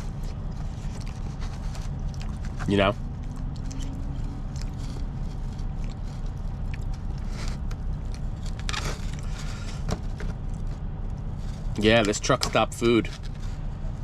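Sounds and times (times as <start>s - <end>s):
person chewing food: 0.0s - 11.8s
steady low rumble: 0.0s - 14.0s.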